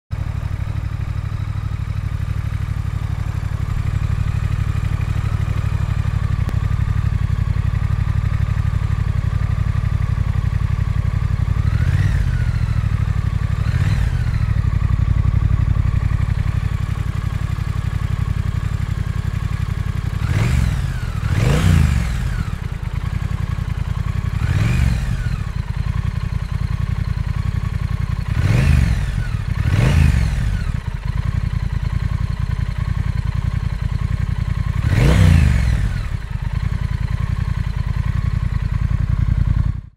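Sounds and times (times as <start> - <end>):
motorcycle engine idling: 0.1 - 39.9.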